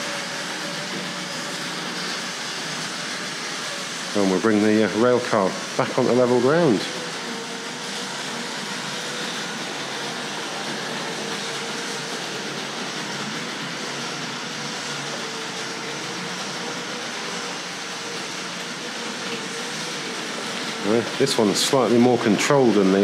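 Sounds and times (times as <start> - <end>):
faint motor whine: 0.0 - 23.0
model train wheels rumbling on rails: 0.0 - 23.0.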